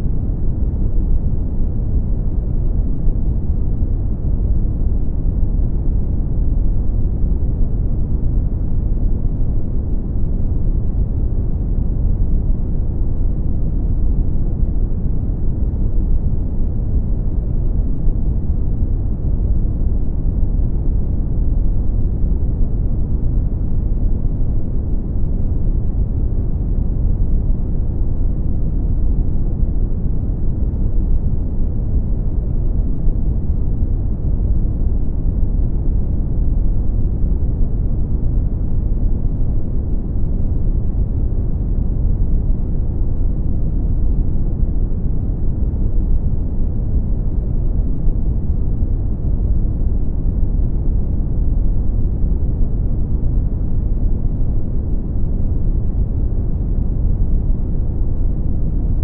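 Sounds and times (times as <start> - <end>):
brown noise rumble: 0.0 - 59.0.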